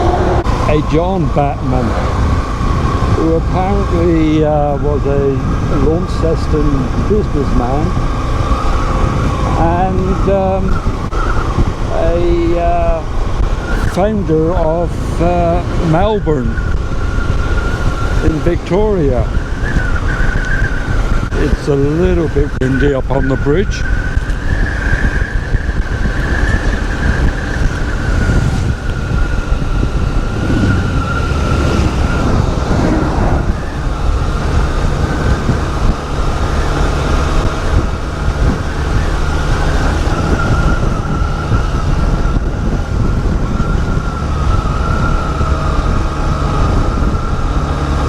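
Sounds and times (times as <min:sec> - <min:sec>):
motorcycle engine whine: 0:00.0 - 0:48.0
wind buffeting microphone: 0:00.0 - 0:48.0.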